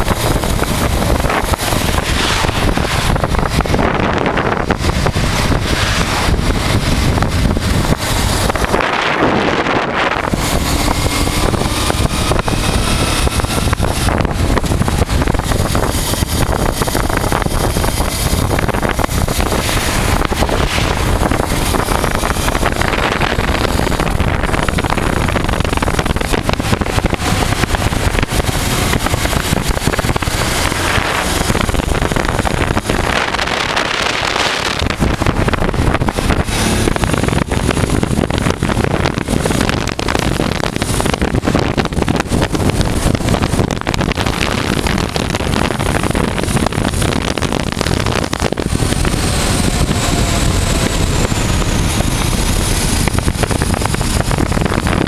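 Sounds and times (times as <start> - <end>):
motorcycle running: 0.0 - 55.0
wind noise on microphone: 0.0 - 55.0.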